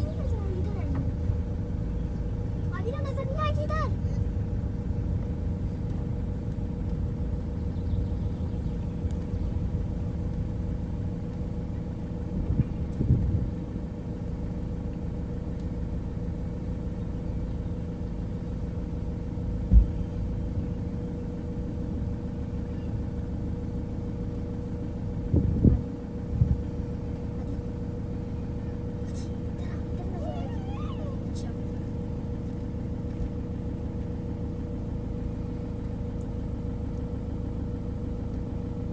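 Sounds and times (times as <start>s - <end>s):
vehicle rumbling with hum: 0.0s - 38.9s.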